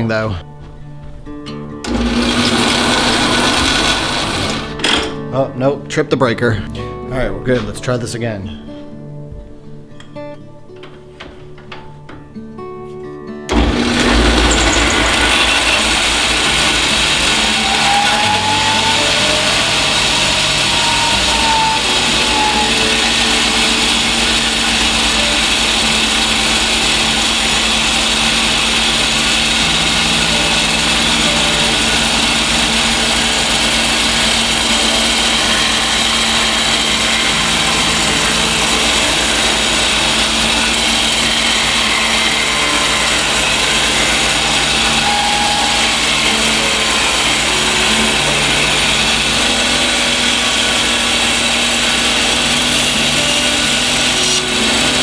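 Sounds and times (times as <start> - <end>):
bandsaw machine whirring: 1.8 - 5.4, 13.5 - 55.0.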